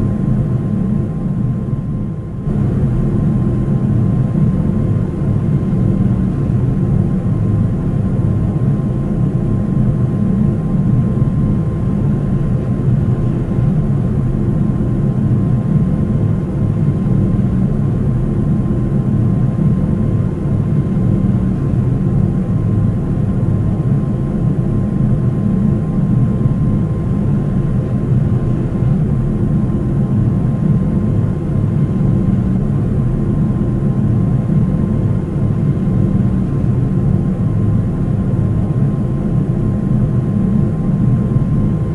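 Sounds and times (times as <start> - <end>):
airplane cabin drone: 0.0 - 41.9.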